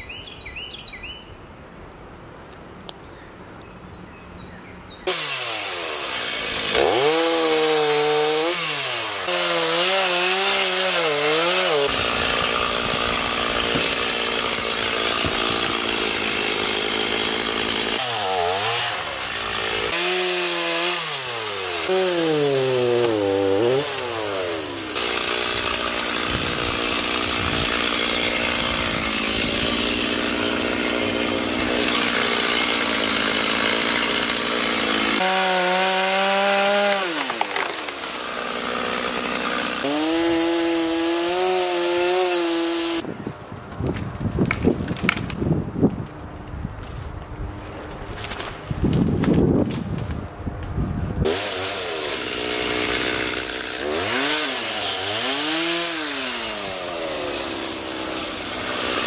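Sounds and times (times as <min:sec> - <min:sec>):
chainsaw cutting wood: 0:05.0 - 0:43.0, 0:48.2 - 0:59.0.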